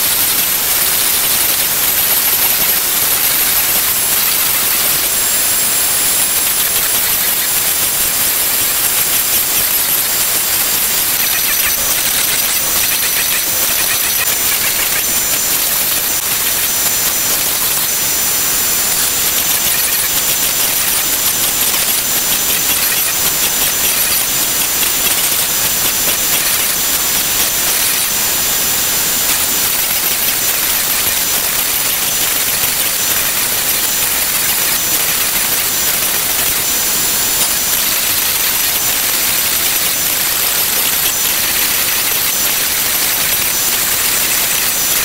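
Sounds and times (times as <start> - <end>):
cnc router cutting wood: 0.0 - 45.0.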